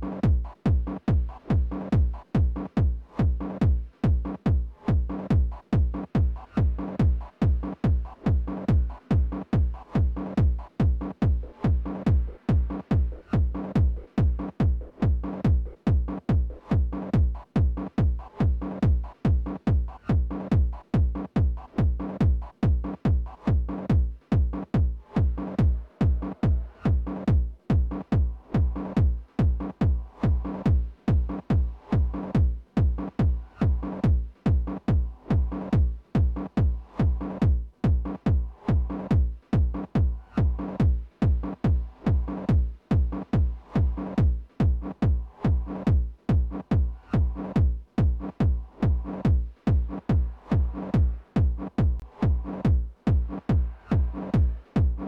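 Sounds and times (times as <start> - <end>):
techno kick drum: 0.0 - 55.0.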